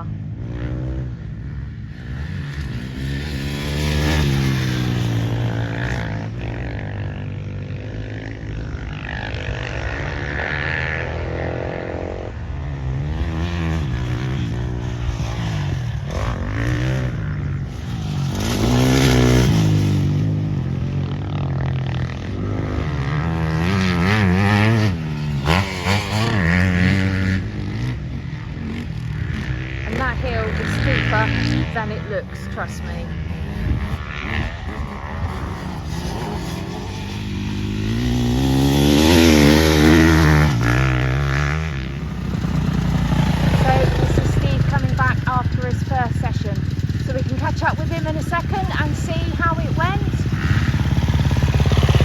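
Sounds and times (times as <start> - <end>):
motocross bike engines revving: 0.0 - 52.0.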